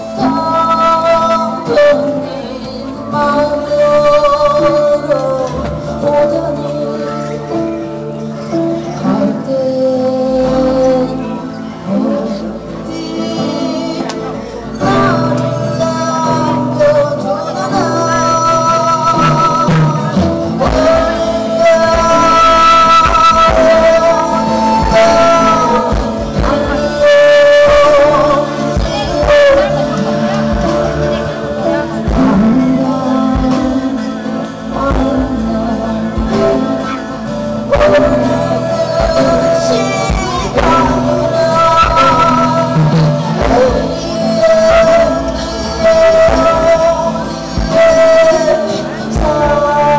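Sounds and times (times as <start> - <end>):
drums: 0.0 - 49.9
strummed acoustic guitar: 0.0 - 49.9
woman singing: 0.0 - 49.9.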